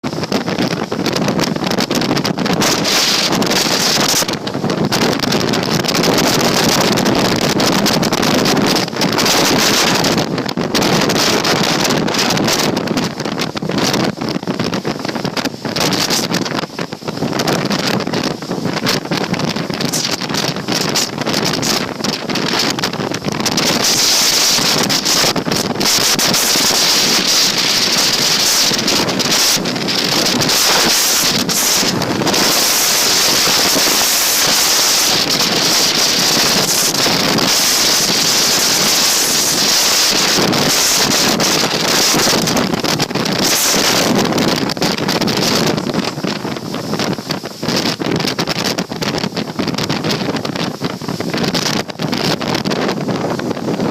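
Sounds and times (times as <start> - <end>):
wind gusting over microphone: 0.0 - 53.9.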